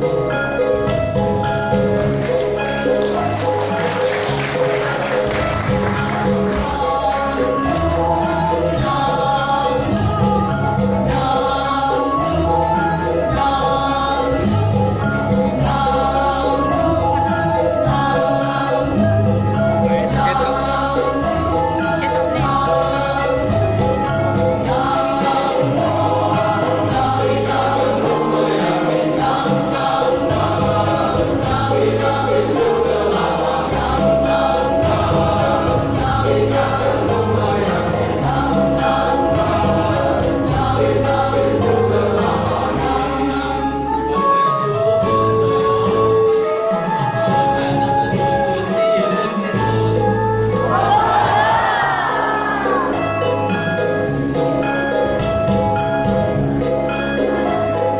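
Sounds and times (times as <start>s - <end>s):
instrumental accompaniment with bass: 0.0s - 57.9s
jingling percussion: 0.0s - 57.9s
choir singing a hymn: 1.4s - 44.3s, 45.0s - 54.5s.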